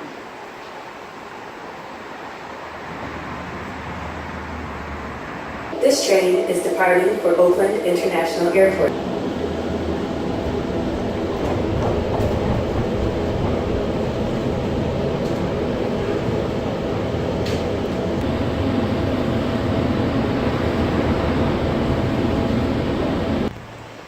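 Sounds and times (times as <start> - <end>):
train rumble and hum: 0.0 - 24.0.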